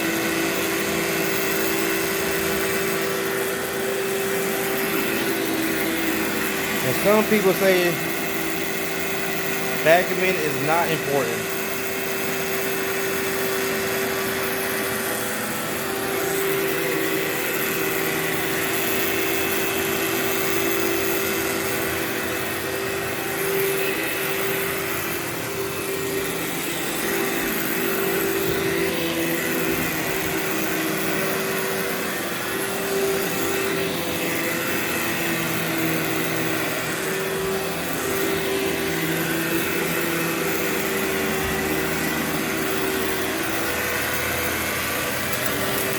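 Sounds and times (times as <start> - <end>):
vacuum cleaner on carpet: 0.0 - 45.9.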